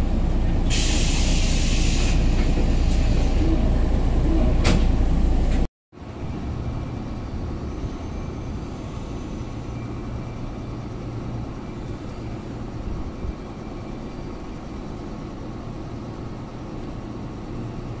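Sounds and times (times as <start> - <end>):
electric train low hum: 0.0 - 18.0.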